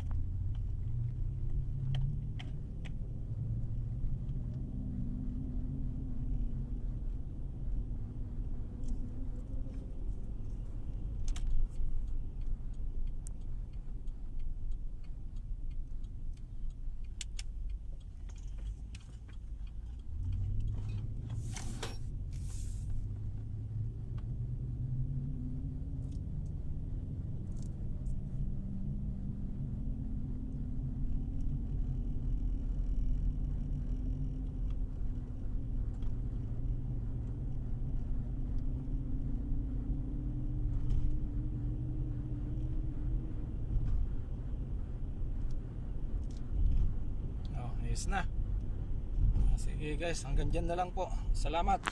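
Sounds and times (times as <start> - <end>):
engine and tyre rumble: 0.0 - 51.9.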